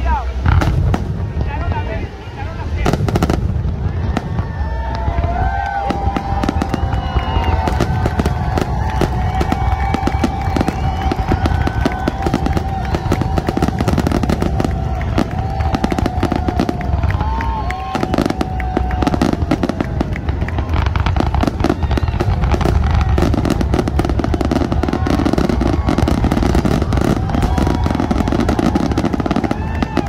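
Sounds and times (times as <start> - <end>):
fireworks bangs and crackles: 0.0 - 30.0
fireworks whistling: 0.0 - 30.0.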